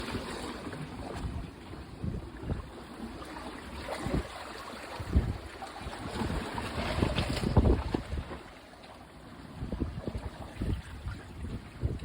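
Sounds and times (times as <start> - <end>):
wind rumbling on microphone: 0.0 - 8.5, 9.4 - 12.0
sea water lapping: 0.0 - 12.0.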